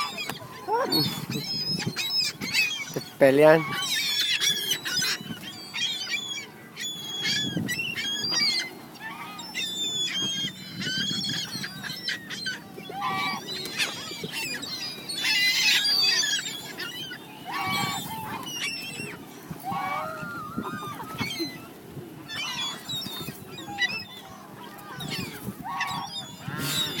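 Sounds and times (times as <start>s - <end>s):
birds squabbling with high calls: 0.0s - 27.0s.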